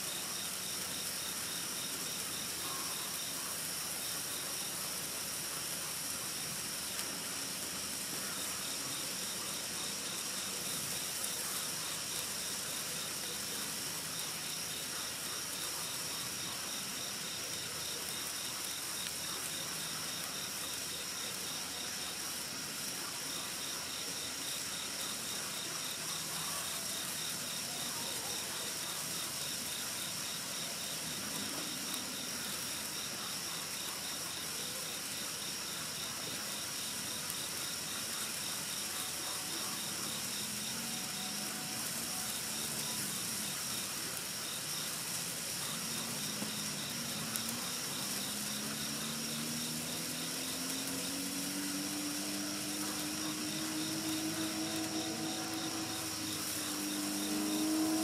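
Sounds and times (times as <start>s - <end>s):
crickets chirping: 0.0s - 58.0s
fountain firework hissing: 0.0s - 58.0s.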